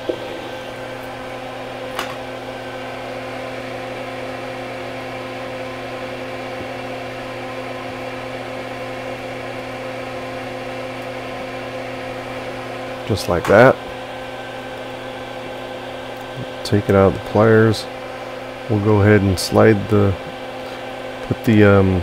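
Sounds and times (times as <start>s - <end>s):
extractor fan humming: 0.0s - 22.0s.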